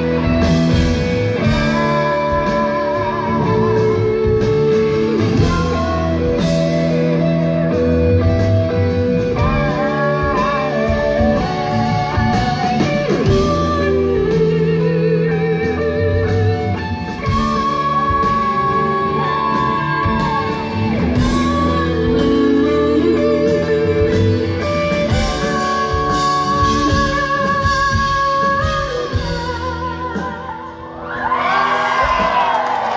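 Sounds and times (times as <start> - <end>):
electric guitars bending notes: 0.0 - 32.9
live rock band playing: 0.0 - 32.9.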